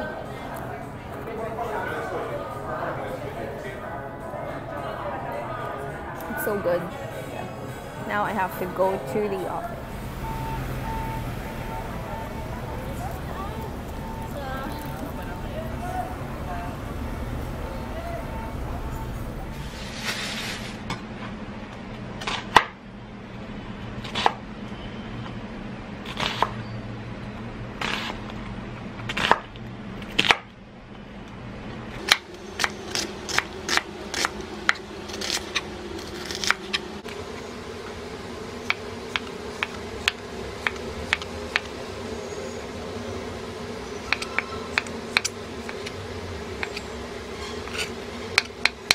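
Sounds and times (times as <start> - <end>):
steady low hum: 0.0 - 26.1, 26.8 - 48.9.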